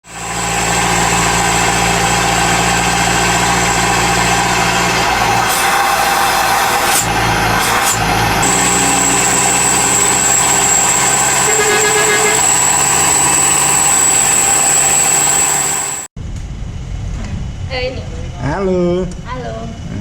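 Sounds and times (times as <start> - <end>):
truck engine running loud: 0.0 - 16.1.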